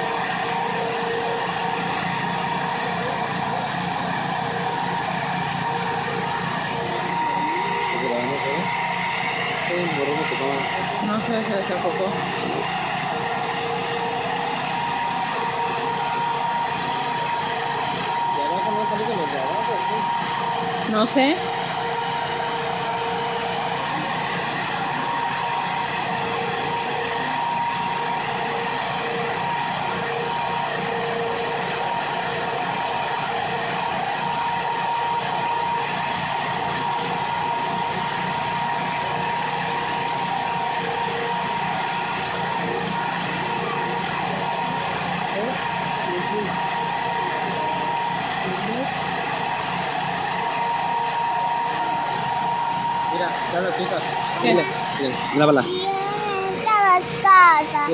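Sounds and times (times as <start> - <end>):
high steady whine: 0.0 - 57.9
large engine idling: 0.0 - 57.9.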